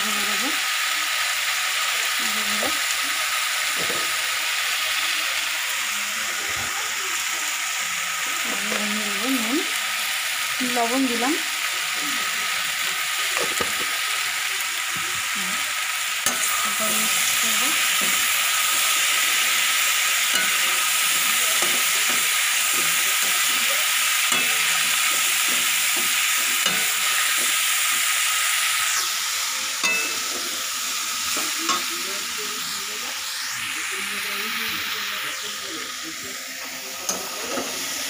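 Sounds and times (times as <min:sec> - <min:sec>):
vegetables sizzling in hot oil: 0:00.0 - 0:38.0.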